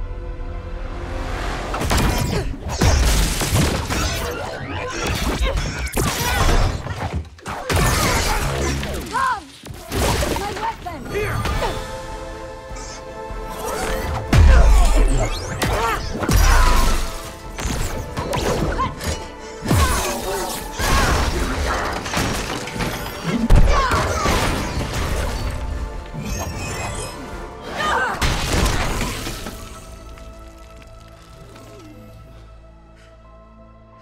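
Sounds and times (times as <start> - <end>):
dramatic music: 0.0 - 34.0.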